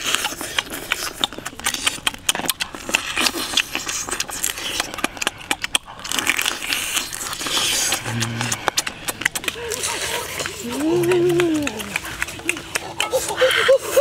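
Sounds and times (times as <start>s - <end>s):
crab shell crackling: 0.0s - 14.0s
wet sucking and slurping: 0.0s - 14.0s.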